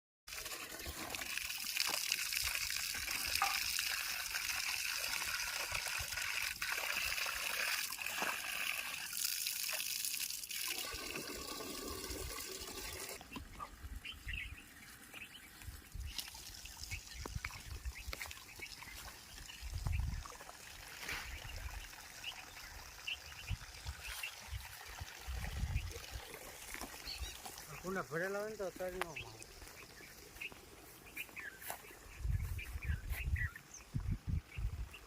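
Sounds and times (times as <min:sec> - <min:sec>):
water running and trickling: 0:00.3 - 0:35.0.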